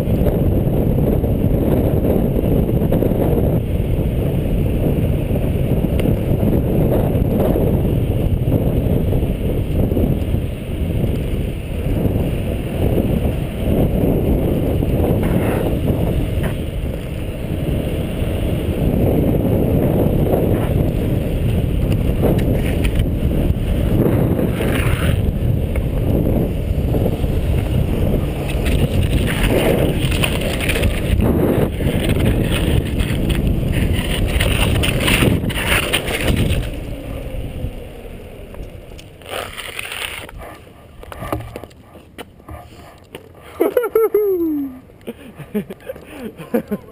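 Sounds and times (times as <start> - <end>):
wheels rolling rumble: 0.0 - 46.9
wind buffeting microphone: 0.0 - 46.9.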